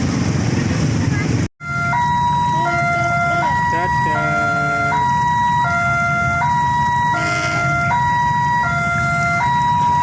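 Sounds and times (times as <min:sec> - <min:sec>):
two-tone crossing alarm: 0:01.6 - 0:10.0.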